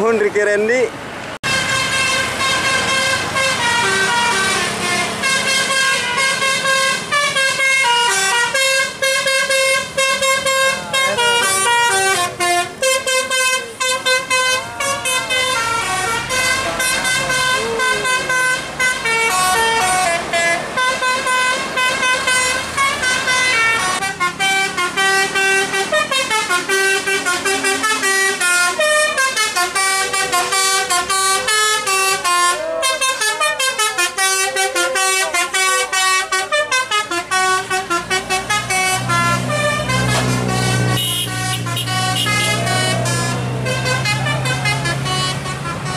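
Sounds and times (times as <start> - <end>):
musical air horns playing melody: 1.4 - 45.9.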